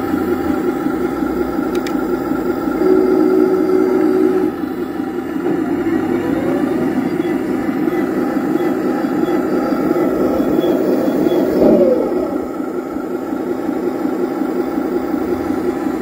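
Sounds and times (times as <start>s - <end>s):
toy tank running: 0.0s - 14.2s.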